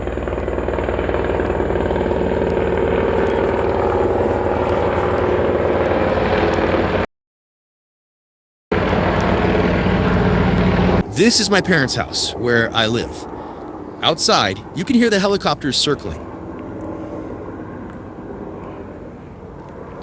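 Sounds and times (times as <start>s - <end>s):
helicopter rotor chopping: 0.0s - 7.0s, 8.8s - 20.0s.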